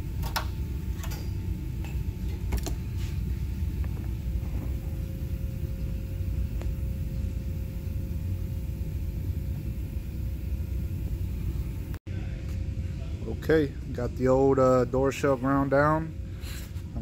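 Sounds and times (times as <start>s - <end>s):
faint steady hum: 0.0s - 17.0s
low background rumble: 0.0s - 17.0s.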